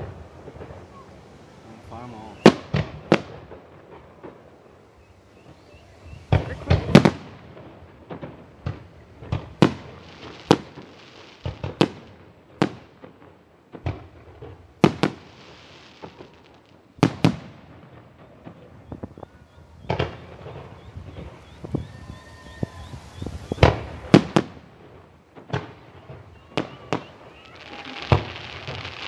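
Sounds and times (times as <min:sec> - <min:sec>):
fireworks bangs: 0:00.0 - 0:29.0
fireworks crackling hiss: 0:00.0 - 0:29.0.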